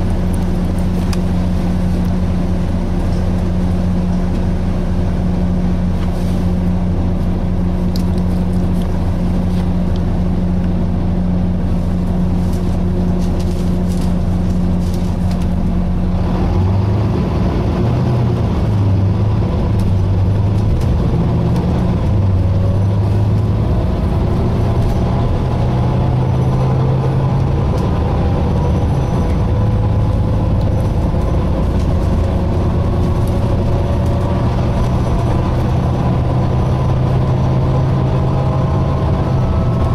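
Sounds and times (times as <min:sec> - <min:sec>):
bus diesel engine: 0:00.0 - 0:39.9
driveline whine: 0:00.0 - 0:39.9.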